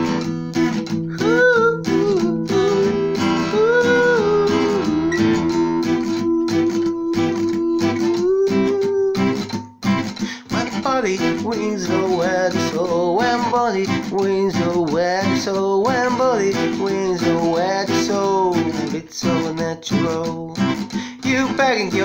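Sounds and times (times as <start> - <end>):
man singing: 0.0 - 9.6, 10.2 - 22.0
acoustic guitar strumming: 0.0 - 22.0.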